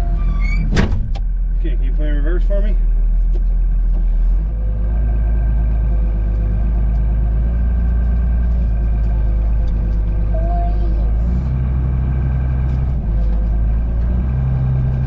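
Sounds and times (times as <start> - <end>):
farm machine engine rumbling: 0.0 - 15.0.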